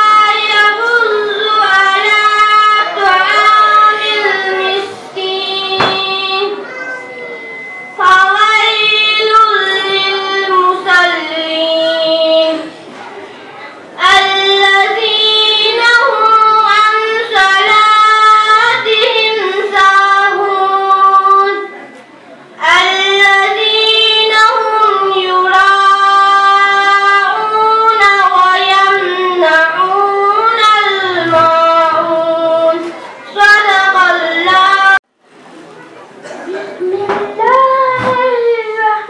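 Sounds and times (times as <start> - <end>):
child reciting in melodic chant: 0.0 - 12.8, 13.5 - 21.8, 22.6 - 35.0, 36.5 - 39.0.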